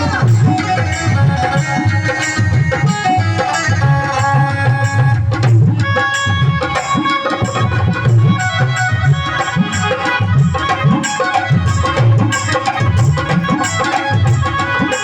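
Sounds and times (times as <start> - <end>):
tabla rhythm: 0.0 - 15.0.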